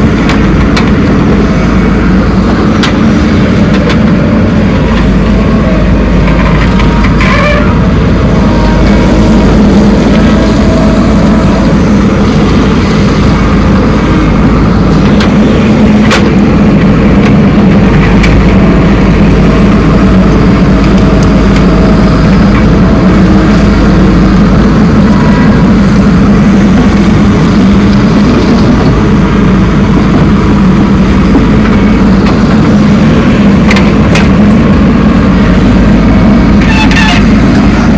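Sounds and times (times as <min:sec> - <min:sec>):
diesel machinery engine rumbling: 0:00.0 - 0:37.9.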